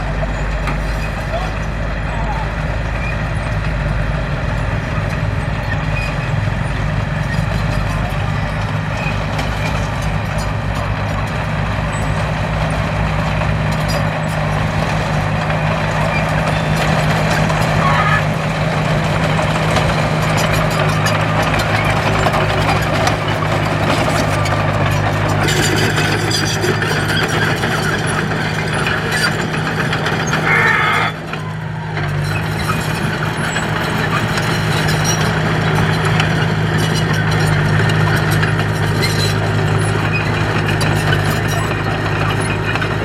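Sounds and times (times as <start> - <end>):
diesel machine engine running: 0.0 - 43.0.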